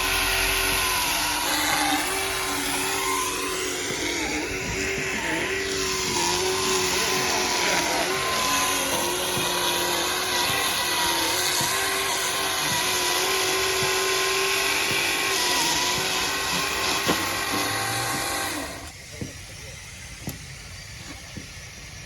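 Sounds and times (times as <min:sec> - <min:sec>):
band saw cutting wood: 0:00.0 - 0:19.0.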